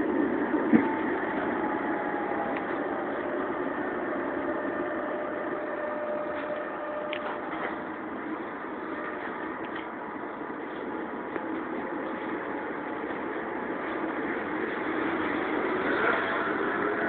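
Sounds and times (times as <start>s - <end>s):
tram rumbling with faint whine: 0.0s - 17.0s.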